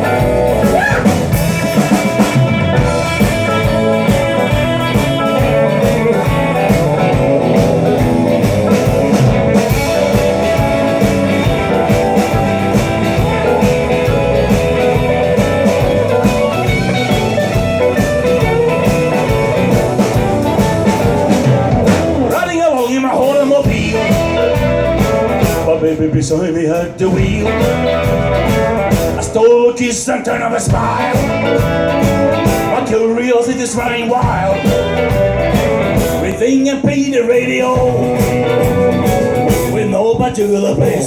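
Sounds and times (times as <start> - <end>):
steady drum beat: 0.0 - 32.9, 33.8 - 41.0
electric guitar: 0.0 - 41.0
rock band playing: 0.0 - 41.0.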